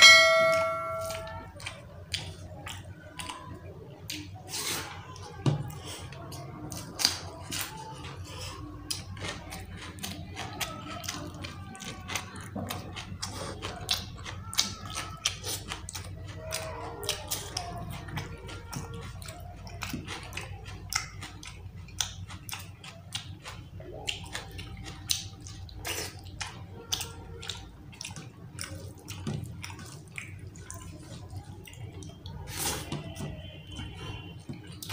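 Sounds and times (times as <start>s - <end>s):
wet chewing and lip smacks: 1.0s - 34.9s.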